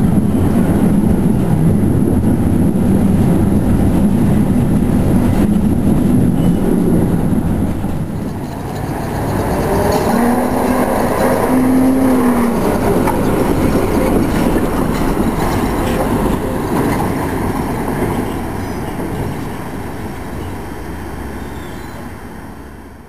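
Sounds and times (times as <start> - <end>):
tram steady tone on curve: 0.0 - 22.2
electric tram rumbling on track: 0.0 - 23.0.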